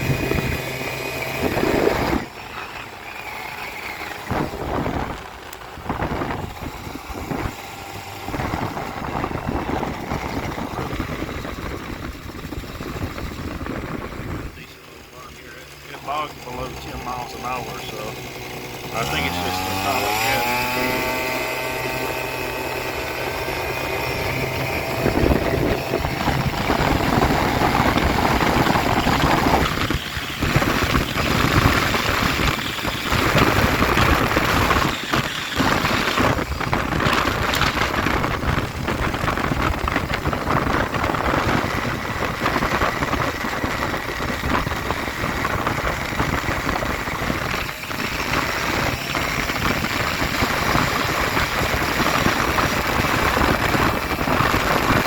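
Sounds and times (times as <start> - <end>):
two-stroke scooter engine: 0.0 - 55.0
wind buffeting microphone: 0.0 - 55.0.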